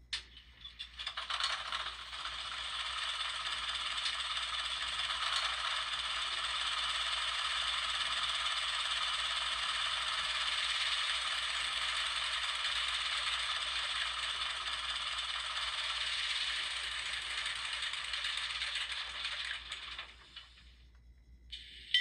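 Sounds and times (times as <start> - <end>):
small speaker diesel engine clatter: 0.2 - 20.8.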